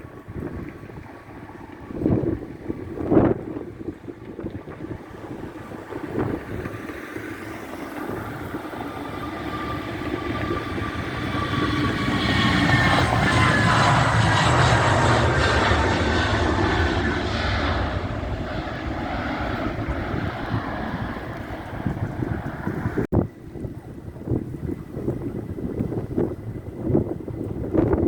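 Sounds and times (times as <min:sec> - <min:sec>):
jet engine passing by: 0:00.0 - 0:28.0.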